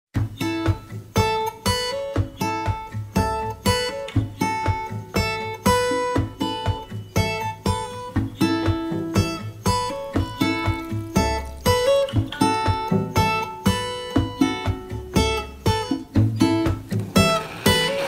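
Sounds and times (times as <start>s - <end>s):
acoustic guitar strumming: 0.2s - 18.0s.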